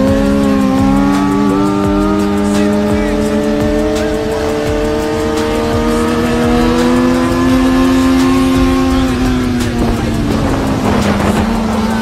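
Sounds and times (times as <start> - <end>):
motorcycle engine at high revs: 0.0 - 12.0.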